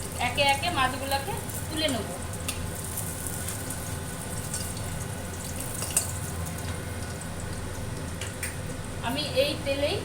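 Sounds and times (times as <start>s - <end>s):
fish frying in hot oil: 0.0s - 9.1s.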